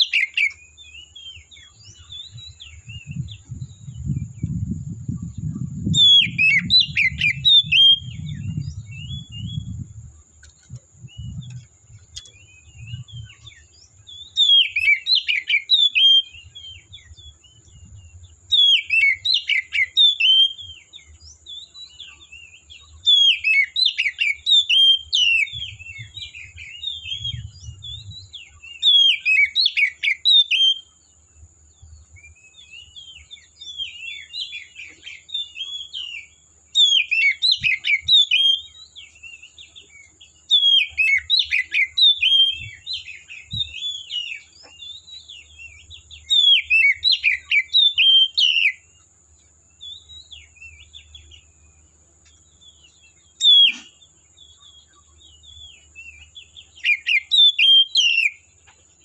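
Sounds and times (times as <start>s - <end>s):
songbird singing whistled phrases: 0.0s - 9.9s, 11.0s - 31.0s, 31.8s - 49.0s, 49.7s - 51.8s, 52.4s - 58.8s.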